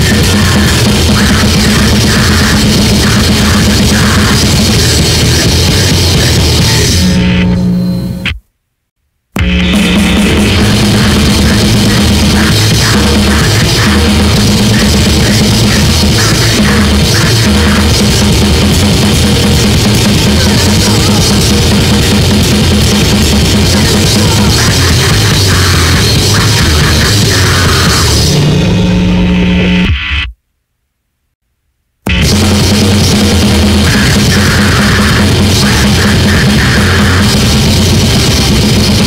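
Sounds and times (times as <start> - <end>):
loud fast distorted rock band: 0.0 - 8.4, 9.4 - 30.3, 32.1 - 39.0.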